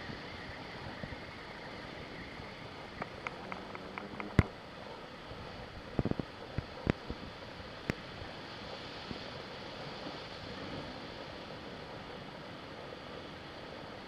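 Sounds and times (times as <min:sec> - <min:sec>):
wind on microphone: 0:00.0 - 0:12.4.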